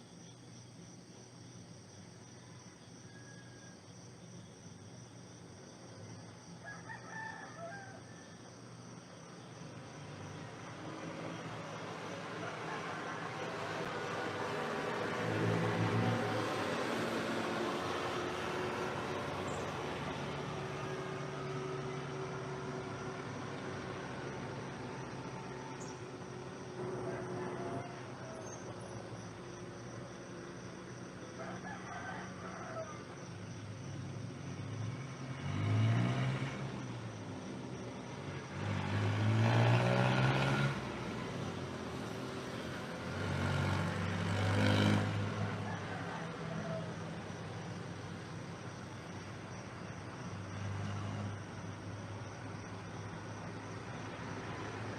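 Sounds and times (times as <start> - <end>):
vehicles passing by: 6.4 - 54.9.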